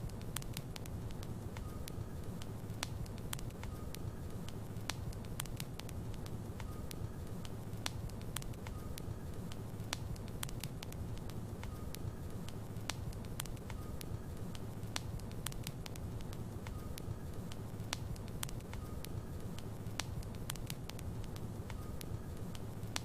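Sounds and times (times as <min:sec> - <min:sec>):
fire rumbling: 0:00.0 - 0:23.0
wood crackling and popping: 0:00.0 - 0:23.0.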